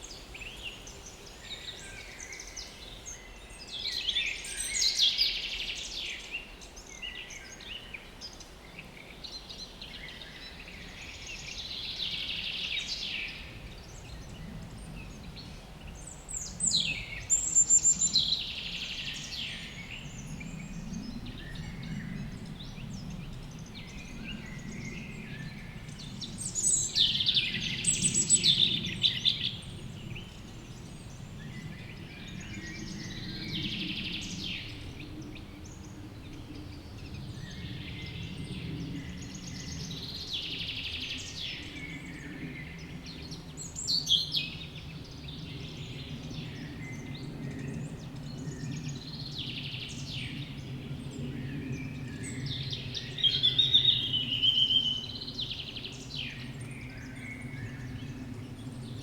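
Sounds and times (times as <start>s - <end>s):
songbird singing with trill: 0.0s - 59.0s.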